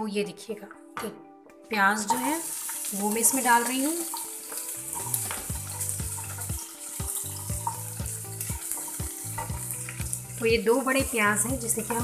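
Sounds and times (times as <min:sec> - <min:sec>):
onions sizzling in oil: 0:02.0 - 0:12.0.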